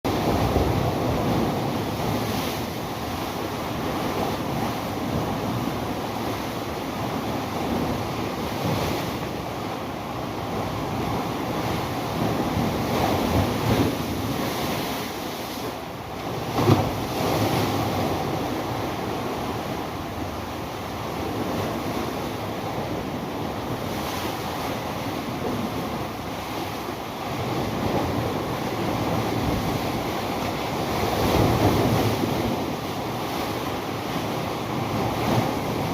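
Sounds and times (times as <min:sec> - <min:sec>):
sea waves washing: 0:00.1 - 0:35.9.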